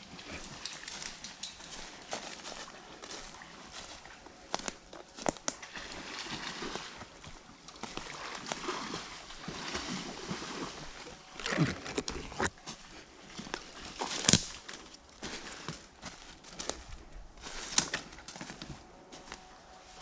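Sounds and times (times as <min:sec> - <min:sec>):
footsteps rustling through ground cover: 0:00.0 - 0:20.0.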